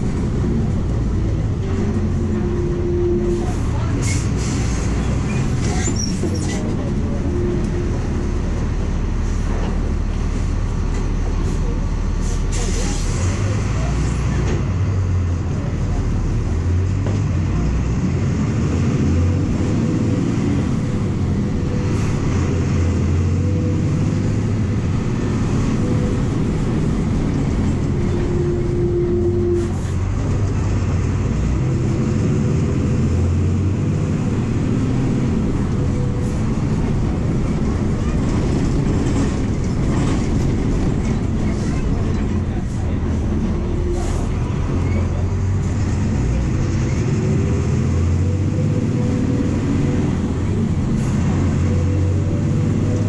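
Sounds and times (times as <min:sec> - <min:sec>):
bus diesel engine running: 0:00.0 - 0:53.0
road and body noise: 0:00.0 - 0:53.0.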